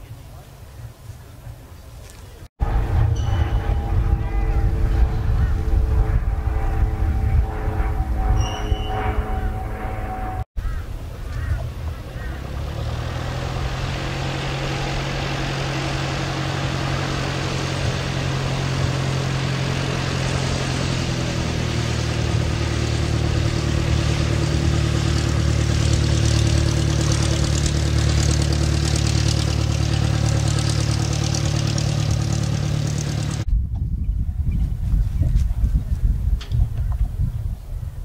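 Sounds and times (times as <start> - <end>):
light aircraft engine and propeller: 0.3 - 38.0.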